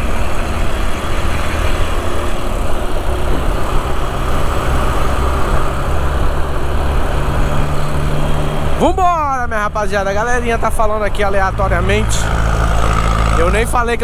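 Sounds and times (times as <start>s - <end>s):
motorcycle engine running: 0.0s - 14.0s
traffic noise: 0.0s - 14.0s.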